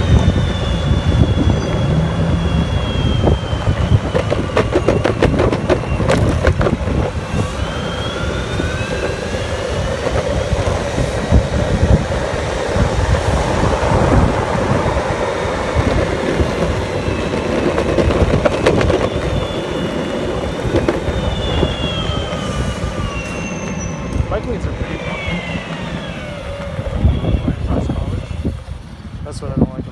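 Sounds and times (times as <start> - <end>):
high drawn-out squeals: 0.0 - 29.4
city traffic noise: 0.0 - 29.9
wind buffeting microphone: 0.0 - 29.9.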